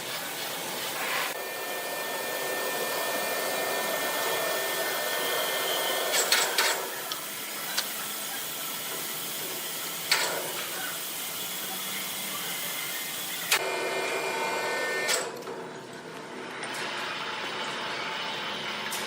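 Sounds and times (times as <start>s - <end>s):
sawmill machinery hissing: 0.0s - 15.4s.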